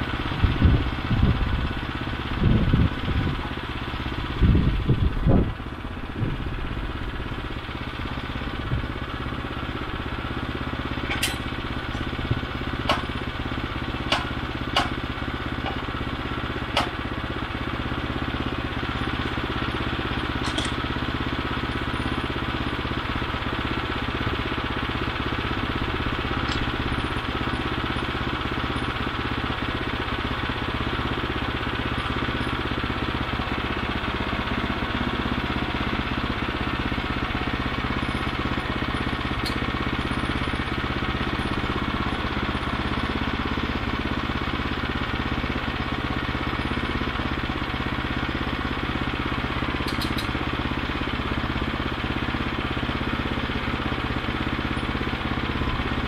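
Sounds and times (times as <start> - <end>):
gas engine running steadily: 0.0 - 56.0.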